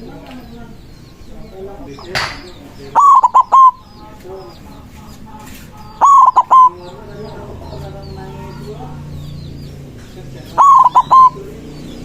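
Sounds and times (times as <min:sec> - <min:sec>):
small birds chirping: 0:00.0 - 0:12.0
dove cooing: 0:00.7 - 0:12.0.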